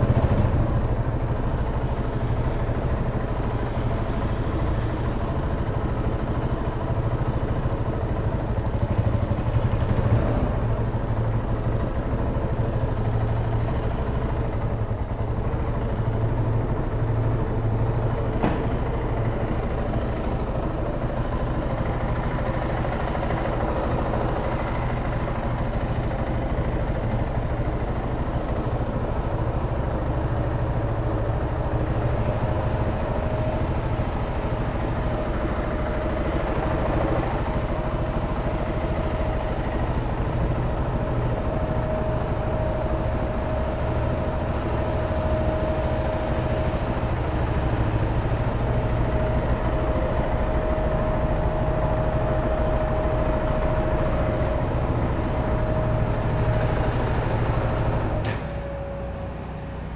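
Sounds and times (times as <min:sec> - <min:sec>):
motorcycle engine idling: 0:00.0 - 0:58.2.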